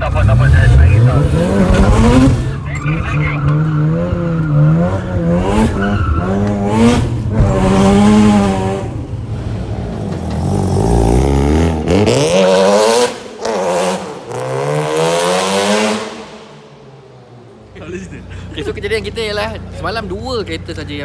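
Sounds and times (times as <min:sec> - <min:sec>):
engine revving: 0:00.0 - 0:17.1.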